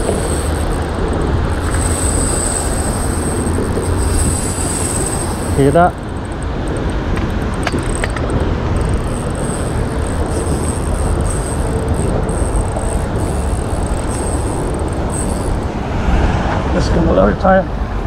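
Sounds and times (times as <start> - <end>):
fishing reel drag whine: 0.0 - 16.0
road traffic rumble: 0.0 - 18.0
wind: 0.0 - 18.0.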